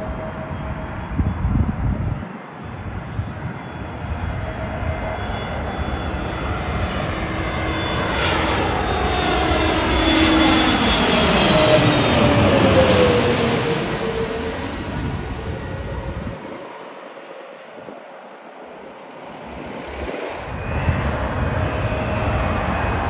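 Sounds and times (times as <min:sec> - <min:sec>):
jet airliner passing overhead: 0:00.0 - 0:23.0
jet engine whine: 0:00.0 - 0:23.0.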